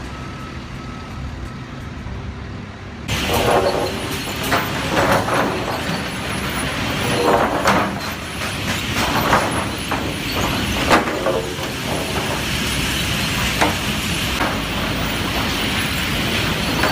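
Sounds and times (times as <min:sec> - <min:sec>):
sawmill machinery running: 0:00.0 - 0:16.9.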